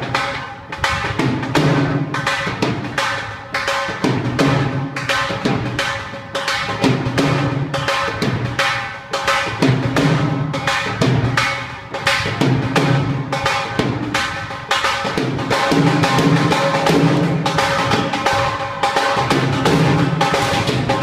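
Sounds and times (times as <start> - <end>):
dhol drumming: 0.0 - 21.0.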